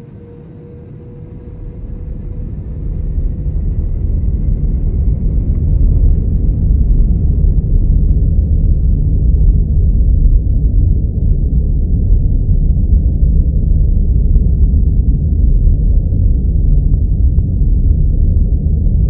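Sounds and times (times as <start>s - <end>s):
deep rumble: 0.0s - 19.0s
faint steady hum: 0.0s - 19.0s.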